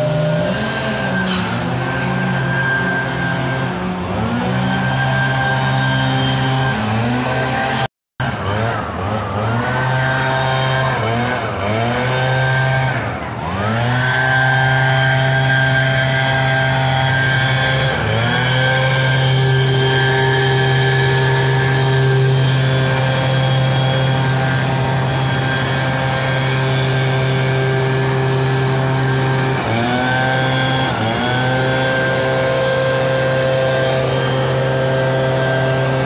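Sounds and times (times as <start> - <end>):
chainsaw cutting wood: 0.0 - 36.0.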